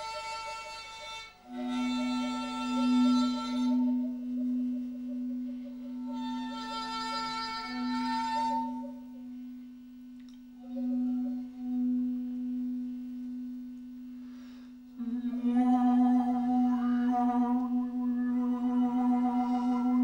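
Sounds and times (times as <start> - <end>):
singing glass bowl ringing tone: 0.0 - 9.7, 10.6 - 13.8, 15.0 - 20.0.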